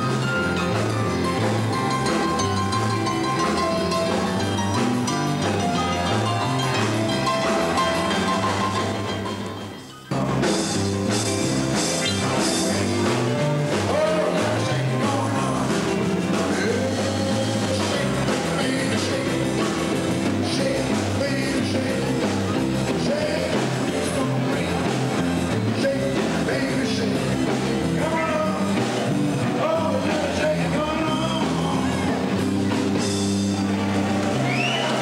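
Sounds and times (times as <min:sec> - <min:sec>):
rock and roll music with singer: 0:00.0 - 0:35.0.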